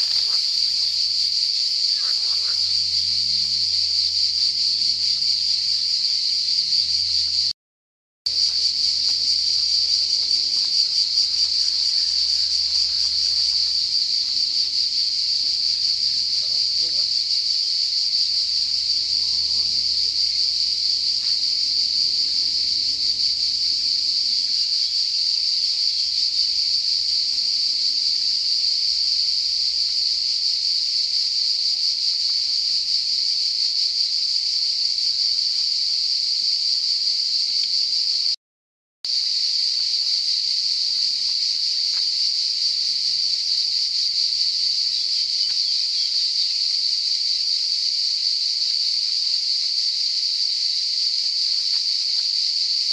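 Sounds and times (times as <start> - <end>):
cicadas chorus: 0.0 - 7.5, 8.3 - 38.4, 39.1 - 52.9.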